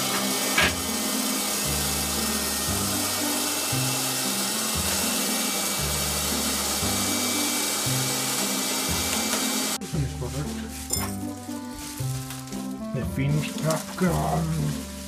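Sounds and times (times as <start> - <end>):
music with bass line: 0.0 - 15.0
popcorn maker whirring hiss: 0.0 - 15.0.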